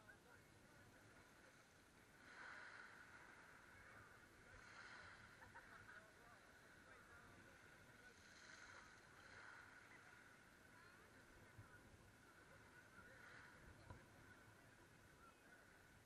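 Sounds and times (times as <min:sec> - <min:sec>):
faint calm sea: 0:00.0 - 0:16.0.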